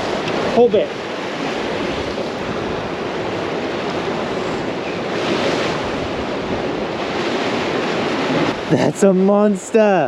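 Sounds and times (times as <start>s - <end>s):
wind buffeting microphone: 0.0s - 9.6s
surf washing against rocks: 0.0s - 10.0s.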